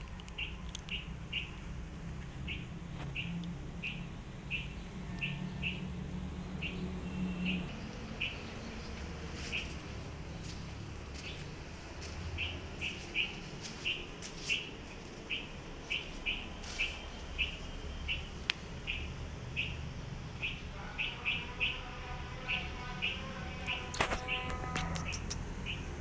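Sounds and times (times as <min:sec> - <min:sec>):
small bird chirping: 0:00.0 - 0:06.0, 0:06.6 - 0:11.5, 0:12.2 - 0:21.8, 0:23.0 - 0:26.0.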